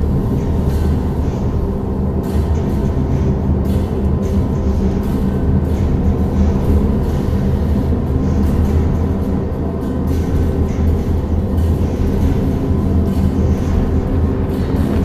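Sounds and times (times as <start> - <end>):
deep ritual drone: 0.0 - 15.0.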